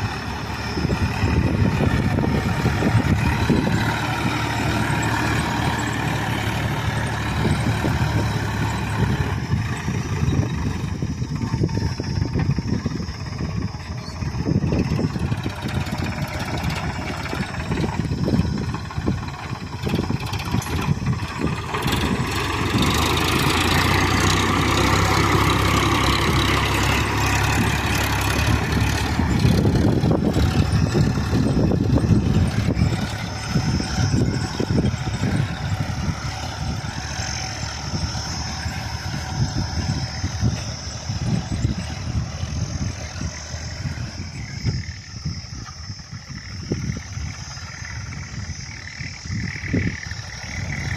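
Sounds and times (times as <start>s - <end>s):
tractor diesel engine working: 0.0s - 50.9s.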